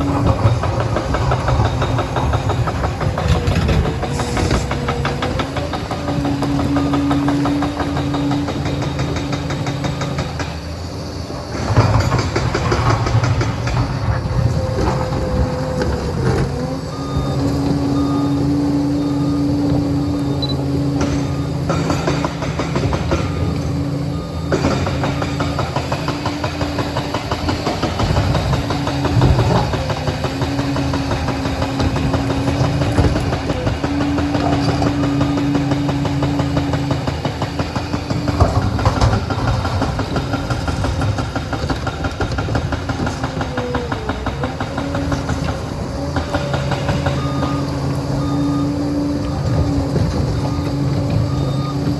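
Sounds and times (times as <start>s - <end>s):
diesel engine under load: 0.0s - 51.9s
tracks clattering: 0.0s - 51.9s.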